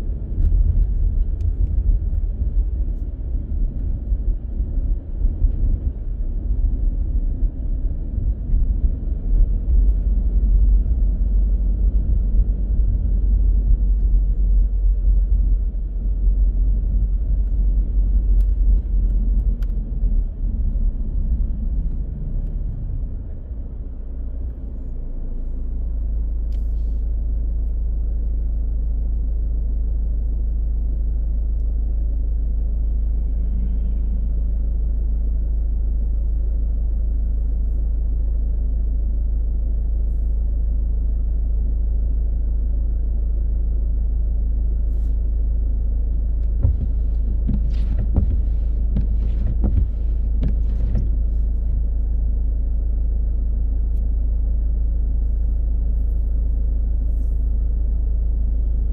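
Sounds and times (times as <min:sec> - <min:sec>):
car road rumble: 0:00.0 - 0:58.9.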